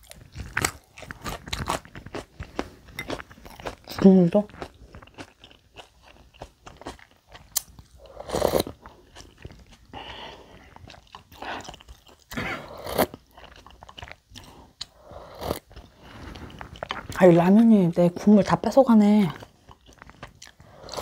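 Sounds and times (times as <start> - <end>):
person chewing noodles: 0.0 - 17.2, 19.4 - 21.0.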